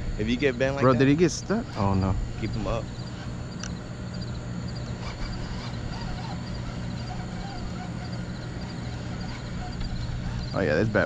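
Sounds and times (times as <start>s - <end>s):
low hum: 0.0s - 11.0s
faint bird calls: 0.4s - 11.0s
fishing reel grinding: 1.0s - 11.0s.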